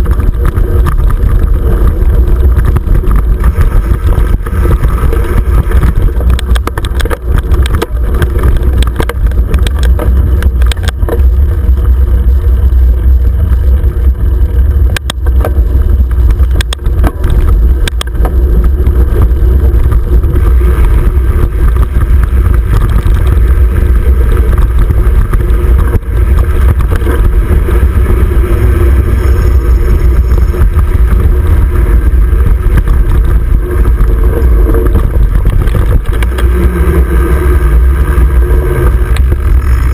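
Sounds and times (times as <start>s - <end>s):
bike clicks and rattles: 0.0s - 39.9s
wind and trail vibration rumble: 0.0s - 39.9s.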